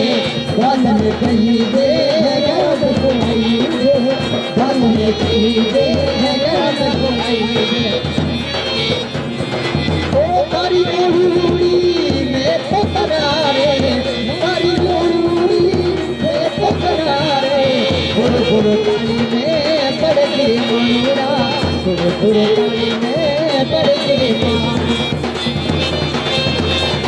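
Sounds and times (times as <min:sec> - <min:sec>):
hand drum beat: 0:00.0 - 0:27.0.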